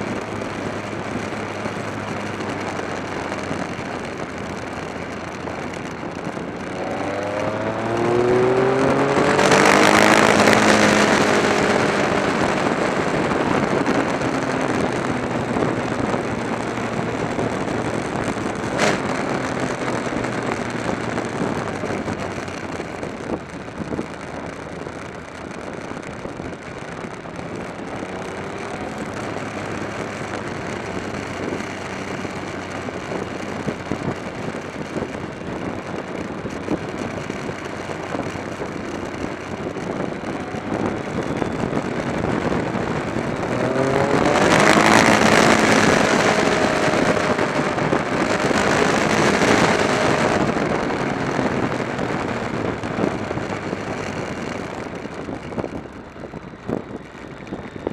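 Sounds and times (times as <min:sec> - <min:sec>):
motorcycle engine running: 0:00.0 - 0:57.9
wind and road noise: 0:00.0 - 0:57.9.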